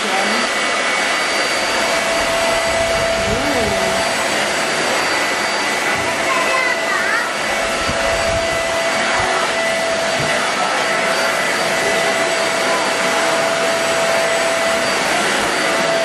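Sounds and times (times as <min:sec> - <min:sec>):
handheld vacuum cleaner running: 0:00.0 - 0:16.0
vacuum brush on floor: 0:00.0 - 0:16.0.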